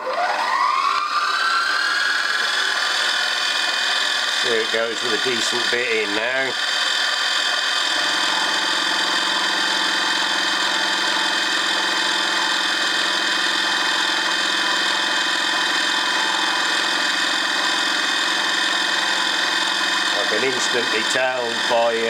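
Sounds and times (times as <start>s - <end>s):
end mill cutting steel: 0.0s - 22.0s
milling machine motor whine: 0.0s - 22.0s.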